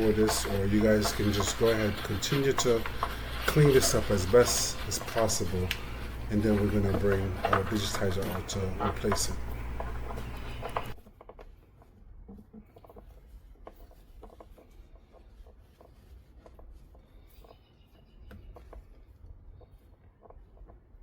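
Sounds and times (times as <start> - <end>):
faint rubbing on screen: 0.0 - 11.0, 12.3 - 20.6.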